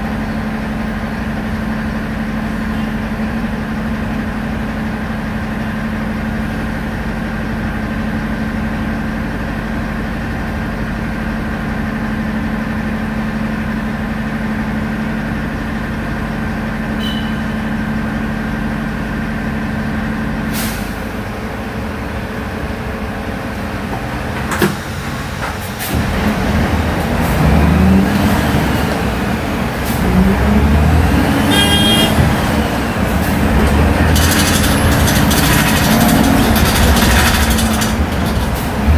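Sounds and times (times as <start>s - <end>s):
bus engine idling and accelerating: 0.0s - 38.9s.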